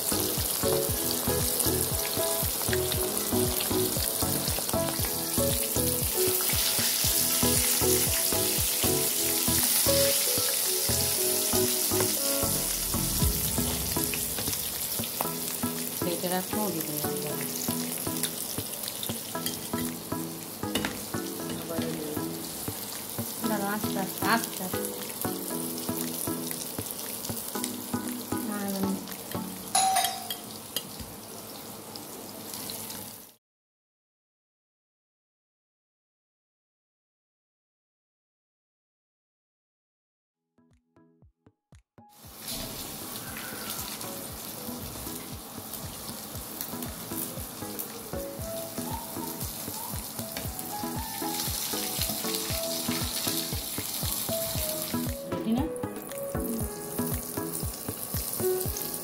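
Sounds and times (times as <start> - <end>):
fish sizzling in hot oil: 0.0 - 33.4, 42.2 - 59.0.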